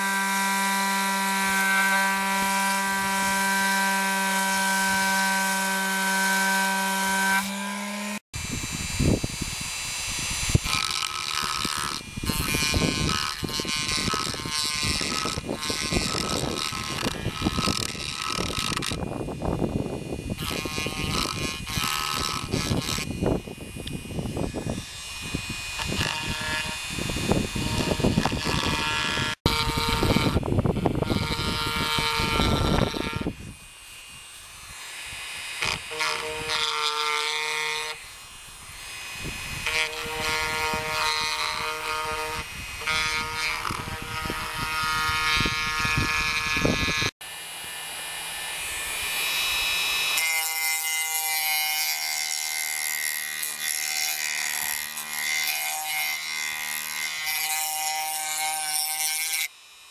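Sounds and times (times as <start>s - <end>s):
rough grinding: 0.0s - 8.2s, 9.0s - 47.2s, 48.3s - 59.9s
rotary tool motor whining: 0.0s - 59.9s.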